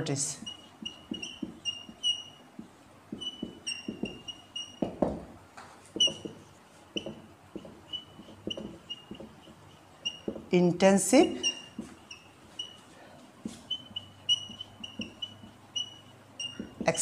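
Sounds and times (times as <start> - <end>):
marker writing on whiteboard: 0.0 - 17.0.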